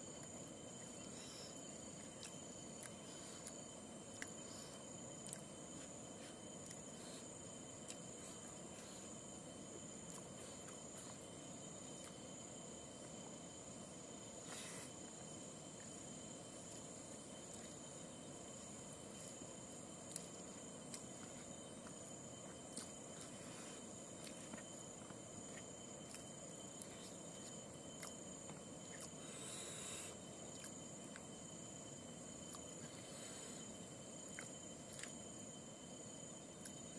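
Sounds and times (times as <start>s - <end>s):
insect chorus: 0.0s - 36.9s.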